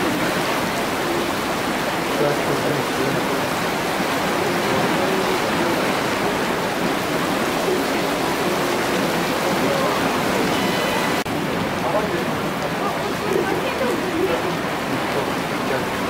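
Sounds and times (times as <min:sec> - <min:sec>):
heavy rain on water: 0:00.0 - 0:16.0
water bubbling and rushing: 0:00.0 - 0:16.0.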